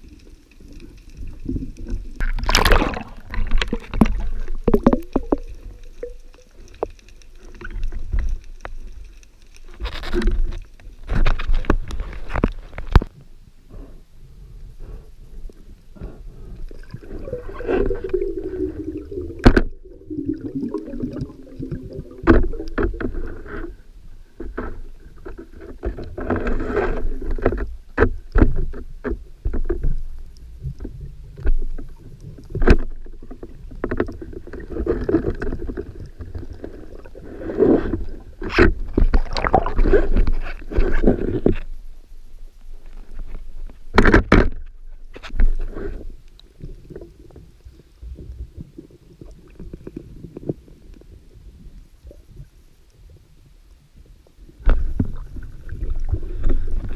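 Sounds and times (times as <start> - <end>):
water sloshing and bubbling: 0.0 - 13.4, 14.1 - 56.9.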